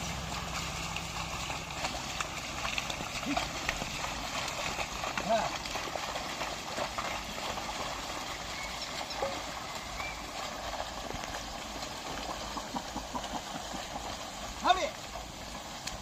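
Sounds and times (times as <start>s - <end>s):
water and mud sloshing: 0.0s - 16.0s.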